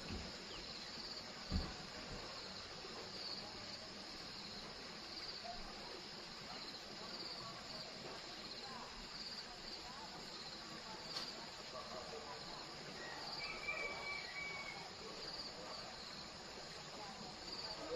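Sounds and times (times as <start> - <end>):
insect chirping: 0.0 - 11.3, 12.6 - 17.9
outdoor background hiss: 0.0 - 17.9.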